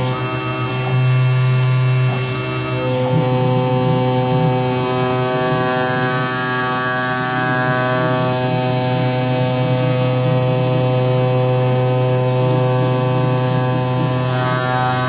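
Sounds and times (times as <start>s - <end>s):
cutting machine humming and whining: 0.0s - 15.0s.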